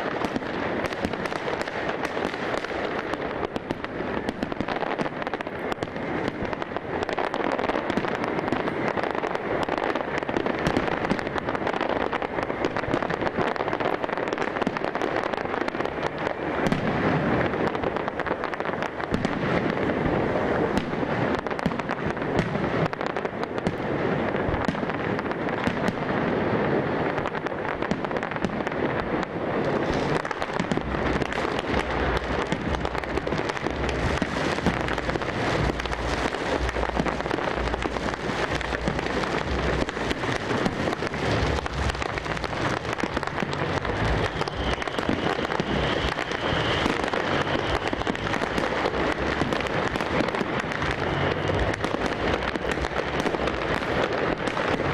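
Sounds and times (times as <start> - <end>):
fireworks crackling and banging: 0.0 - 54.9.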